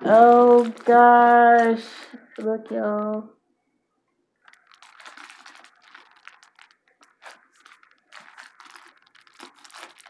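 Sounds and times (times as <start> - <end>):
plastic bag crinkling: 0.0 - 3.2, 4.4 - 10.0.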